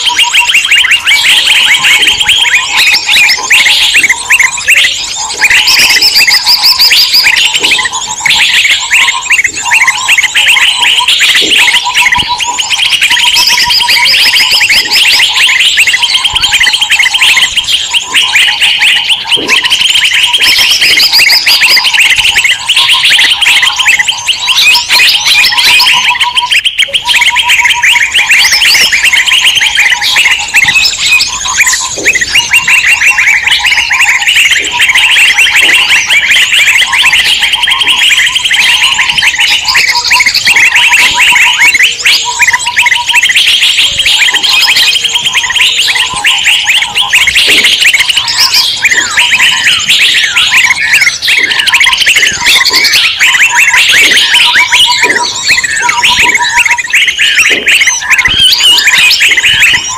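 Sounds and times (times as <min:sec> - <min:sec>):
songbirds chattering and chirping: 0:00.0 - 0:59.9.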